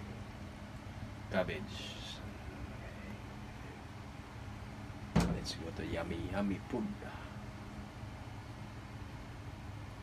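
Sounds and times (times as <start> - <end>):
faint hum: 0.0 - 10.0
gas stove burner rumbling: 0.0 - 10.0.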